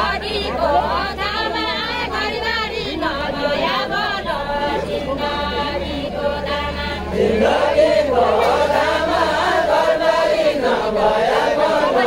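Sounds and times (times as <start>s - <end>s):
group singing in unison: 0.0s - 12.0s.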